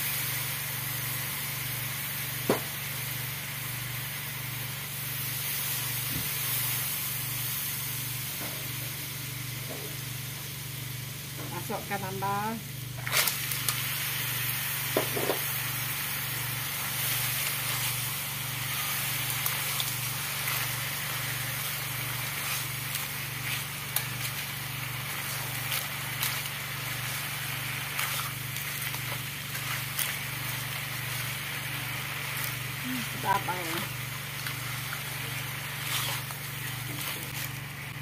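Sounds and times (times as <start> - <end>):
clams sizzling in a wok: 0.0 - 38.0.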